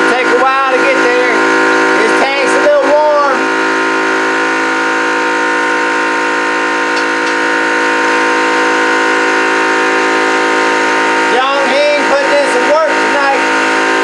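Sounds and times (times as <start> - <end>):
air compressor whining: 0.0 - 14.0.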